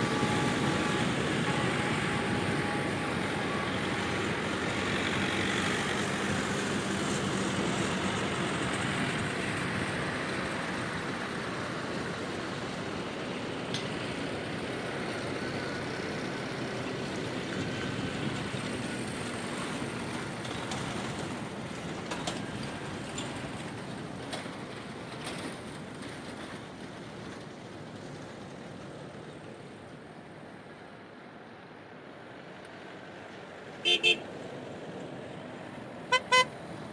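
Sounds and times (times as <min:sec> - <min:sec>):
tractor engines running: 0:00.0 - 0:36.9.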